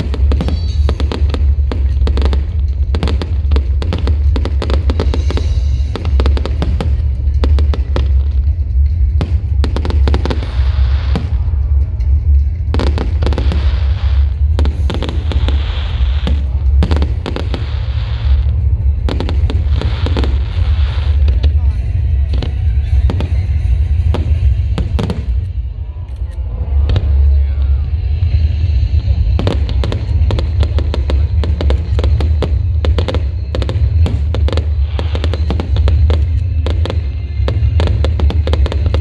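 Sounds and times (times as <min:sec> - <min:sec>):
fireworks crackling: 0:00.0 - 0:25.9, 0:26.9 - 0:39.0
fireworks bangs: 0:00.0 - 0:26.0, 0:26.7 - 0:39.0.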